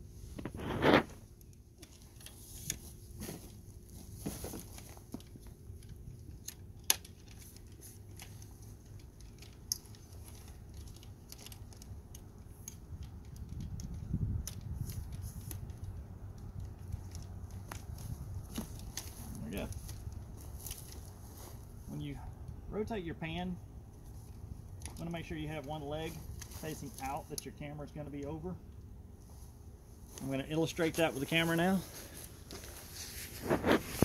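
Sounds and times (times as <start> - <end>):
handling rustle: 0.0 - 22.6, 23.8 - 27.6, 29.1 - 34.0
tripod leg sections rattling: 0.3 - 21.8, 23.8 - 27.6, 29.2 - 34.0.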